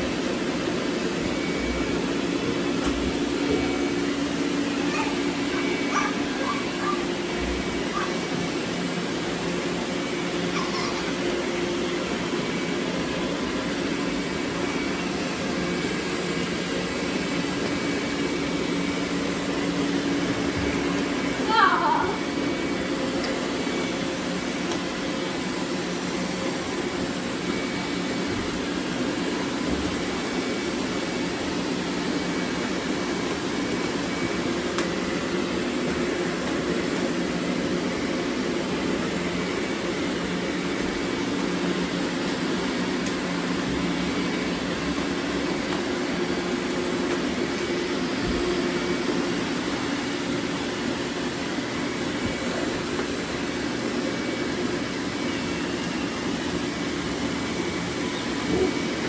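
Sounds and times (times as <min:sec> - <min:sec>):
robot vacuums humming: 0:00.0 - 0:59.0.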